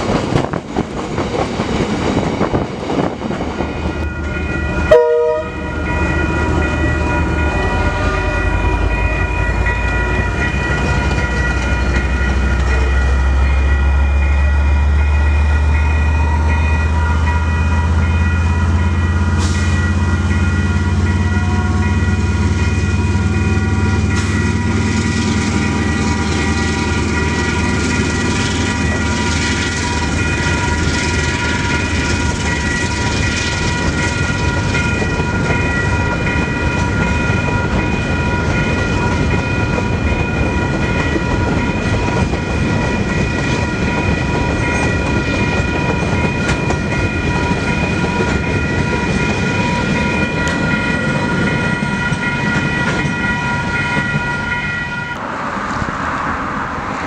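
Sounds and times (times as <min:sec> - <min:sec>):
diesel locomotive engine: 0:00.0 - 0:57.0
level crossing bells ringing: 0:03.6 - 0:55.2.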